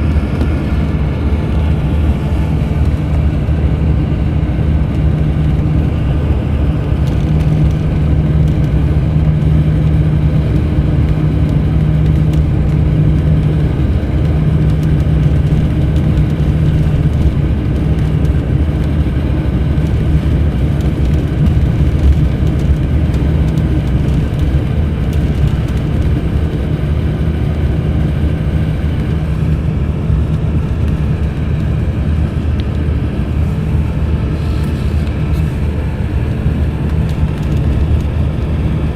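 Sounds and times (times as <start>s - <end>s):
bus diesel engine droning: 0.0s - 38.9s
road noise: 0.0s - 38.9s.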